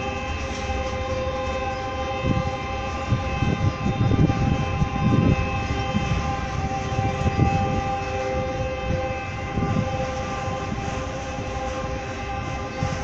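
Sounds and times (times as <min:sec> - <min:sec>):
steady high whine: 0:00.0 - 0:13.0
train wheels rumbling: 0:00.0 - 0:13.0.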